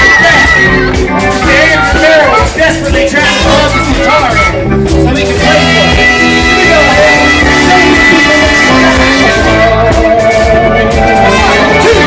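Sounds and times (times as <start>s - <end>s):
blues-rock band playing: 0.0s - 12.0s
drums: 0.0s - 12.0s
electric guitar: 0.0s - 12.0s.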